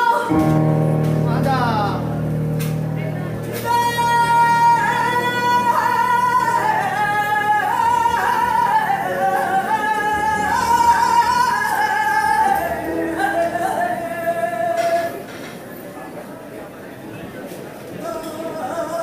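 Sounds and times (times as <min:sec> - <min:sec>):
woman singing with vibrato: 0:00.0 - 0:15.4, 0:18.0 - 0:19.0.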